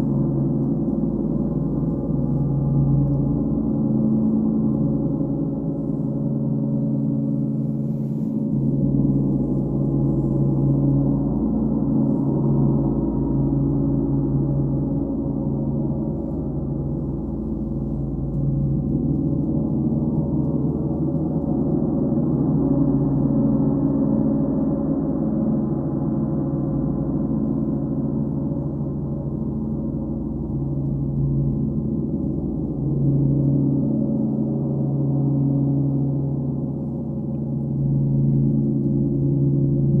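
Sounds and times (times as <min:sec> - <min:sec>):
deep sustained ringing tones: 0:00.0 - 0:40.0.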